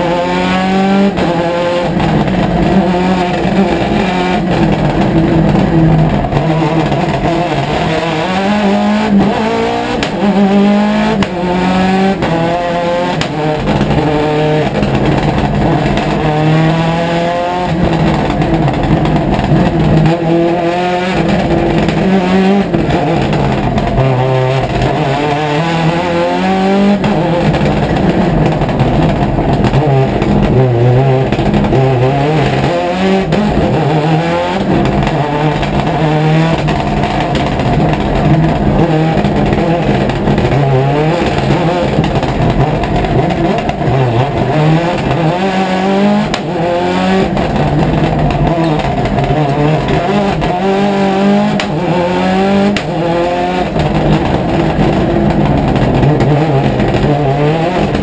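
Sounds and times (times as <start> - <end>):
rally car engine revving hard: 0.0 - 58.0.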